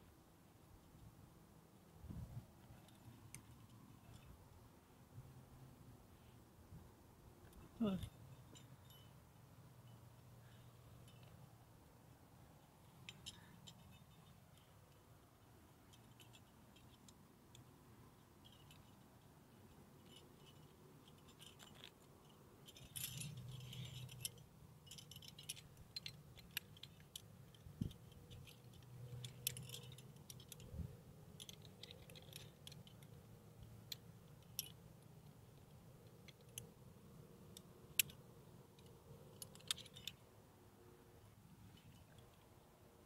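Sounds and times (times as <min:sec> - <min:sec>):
metal climbing gear clinking: 0:02.4 - 0:04.5, 0:07.4 - 0:40.4, 0:41.2 - 0:43.0.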